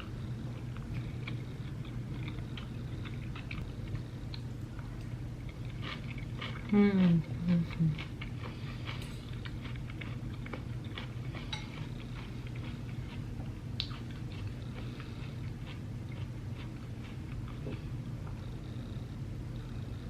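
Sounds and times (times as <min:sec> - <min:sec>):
quiet chewing: 0:00.0 - 0:20.0
steady low hum: 0:00.0 - 0:20.0.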